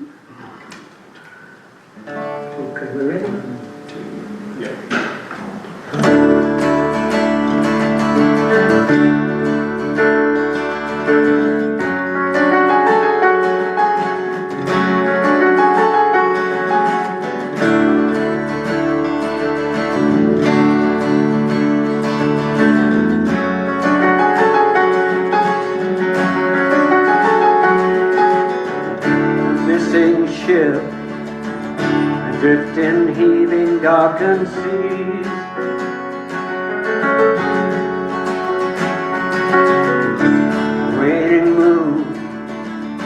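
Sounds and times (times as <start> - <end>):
acoustic guitar playing: 0.0 - 43.0.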